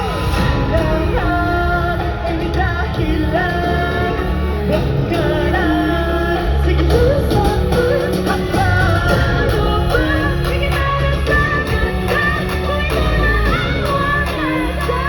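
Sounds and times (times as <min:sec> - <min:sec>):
live amplified pop music: 0:00.0 - 0:15.0.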